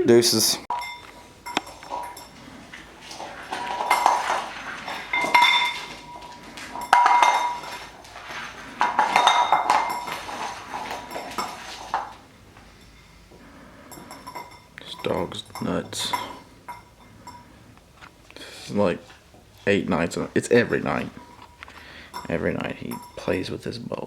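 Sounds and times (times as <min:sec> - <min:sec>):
bowl clattering on floor: 0:00.7 - 0:18.1, 0:19.1 - 0:23.6.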